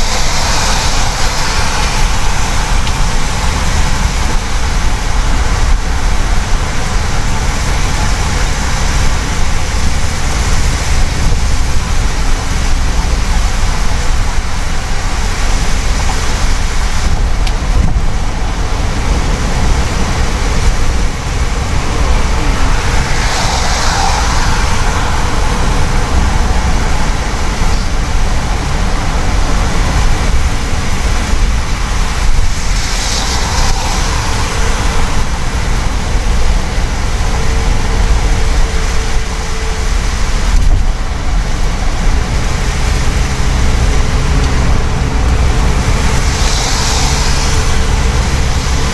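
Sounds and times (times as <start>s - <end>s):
tyre and engine rumble: 0.0s - 48.9s.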